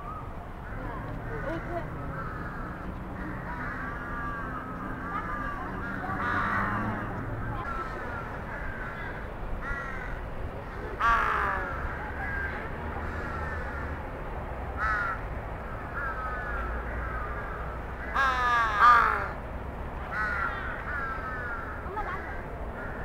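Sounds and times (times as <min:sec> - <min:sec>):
crows cawing: 0:00.6 - 0:14.0, 0:14.8 - 0:19.4, 0:20.1 - 0:23.0.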